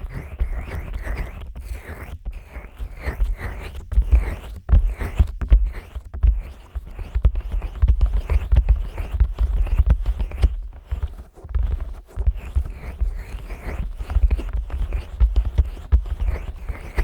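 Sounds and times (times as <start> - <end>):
fingers rubbing microphone: 0.0 - 17.0.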